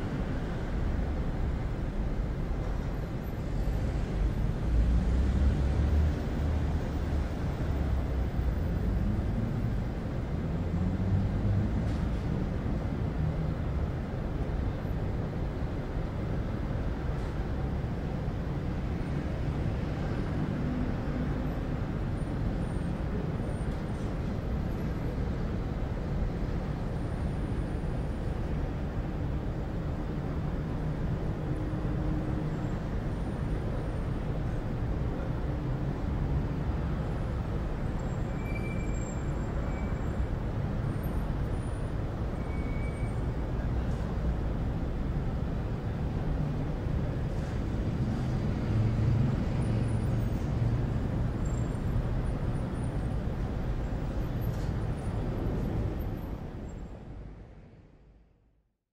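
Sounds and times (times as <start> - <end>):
passing vehicle engines: 0.0 - 57.5
road traffic rumble: 0.0 - 58.2.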